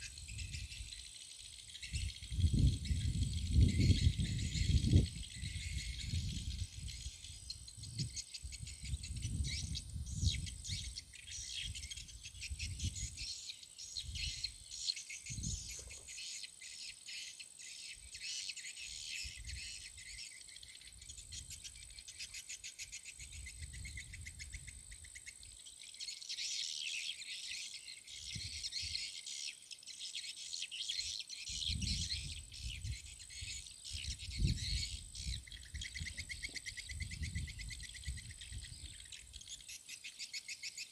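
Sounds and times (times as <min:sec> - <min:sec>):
insects chirping and trilling: 0:00.0 - 0:40.9.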